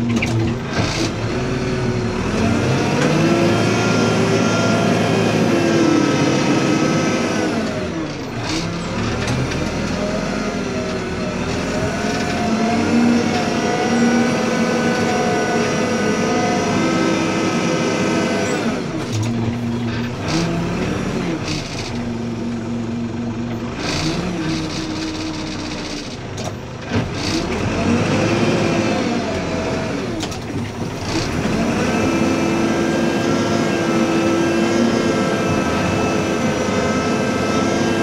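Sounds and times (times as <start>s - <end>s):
diesel engine under load: 0.0s - 38.0s.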